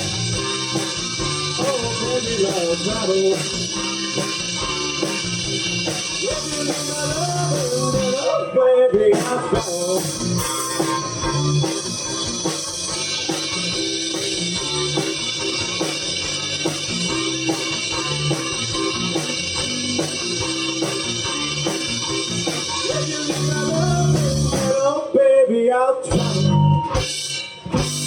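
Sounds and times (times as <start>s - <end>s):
rock band playing: 0.0s - 25.1s, 26.1s - 28.0s.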